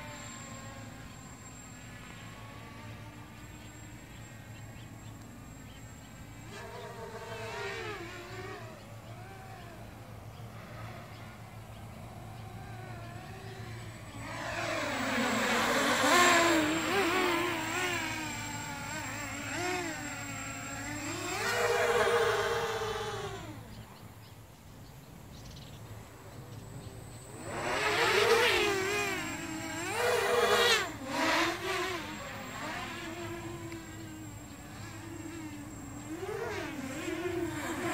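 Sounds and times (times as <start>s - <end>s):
drone propellers whining: 0.0s - 37.9s.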